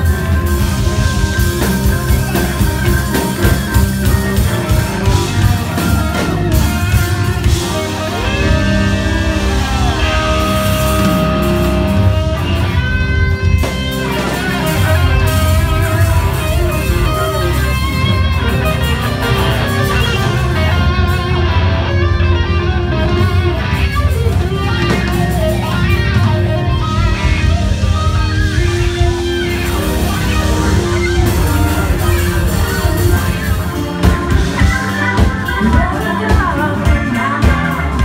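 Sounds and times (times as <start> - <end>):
bass guitar: 0.0 - 38.0
electric guitar lines: 0.0 - 38.0.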